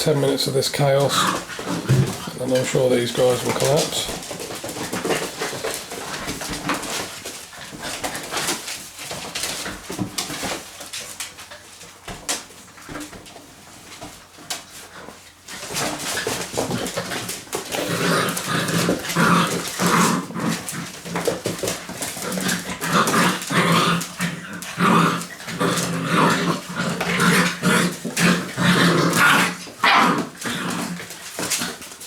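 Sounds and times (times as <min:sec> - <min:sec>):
puppies growling: 0:00.0 - 0:10.6, 0:13.8 - 0:32.0.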